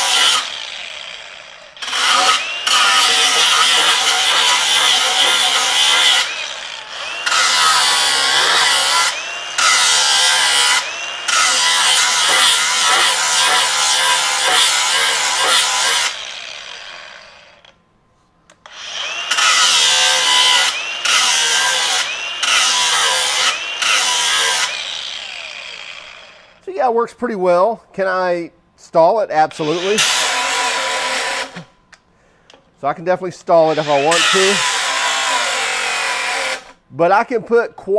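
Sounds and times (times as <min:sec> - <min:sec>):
angle grinder grinding steel: 0:00.0 - 0:17.8, 0:18.6 - 0:26.6, 0:29.6 - 0:31.7, 0:33.5 - 0:36.8.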